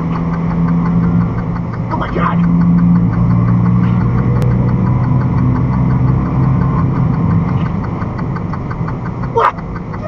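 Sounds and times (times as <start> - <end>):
road noise: 0.0 - 10.0
truck engine hum: 0.0 - 10.0.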